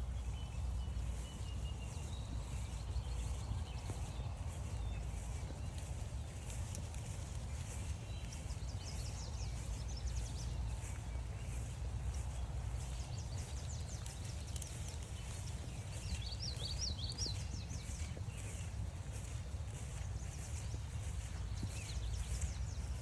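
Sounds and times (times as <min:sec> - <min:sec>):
songbirds singing: 0:00.0 - 0:23.0
walking footsteps: 0:00.0 - 0:23.0.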